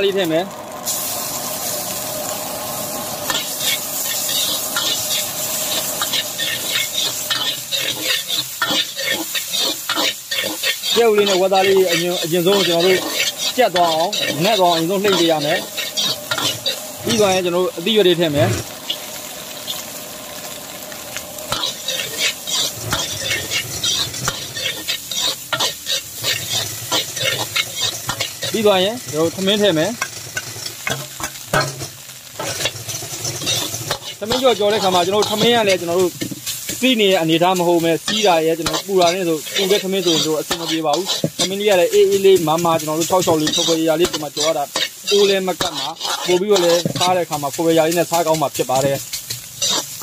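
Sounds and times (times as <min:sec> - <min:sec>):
egg sizzling in a wok: 0:00.0 - 0:50.0
metal ladle scraping wok: 0:03.2 - 0:17.6, 0:21.5 - 0:29.4, 0:30.0 - 0:36.8, 0:37.8 - 0:47.6, 0:48.8 - 0:50.0.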